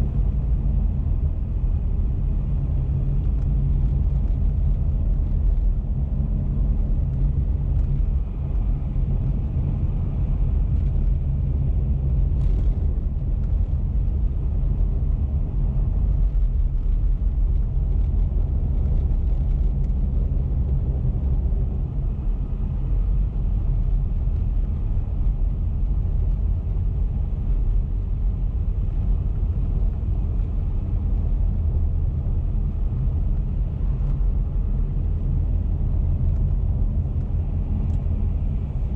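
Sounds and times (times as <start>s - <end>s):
car driving on highway: 0.0s - 38.9s.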